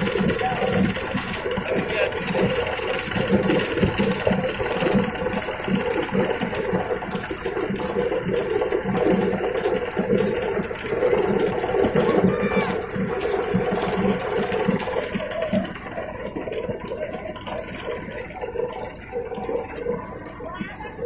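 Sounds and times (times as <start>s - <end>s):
carding machine running: 0.0s - 21.0s.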